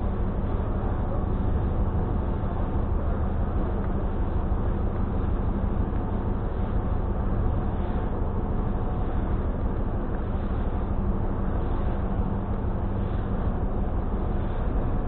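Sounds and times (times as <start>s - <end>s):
low engine drone with hum: 0.0s - 15.0s.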